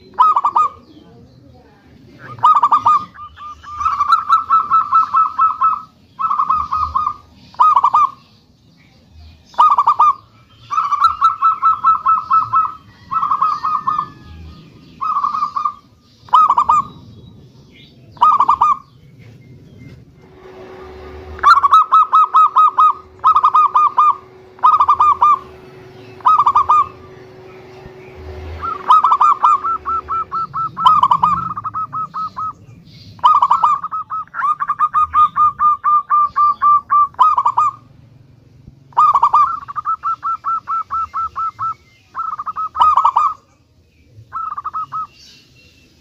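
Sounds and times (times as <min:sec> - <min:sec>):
dove cooing: 0:00.0 - 0:08.3, 0:09.5 - 0:38.0, 0:38.9 - 0:43.5, 0:44.3 - 0:45.2.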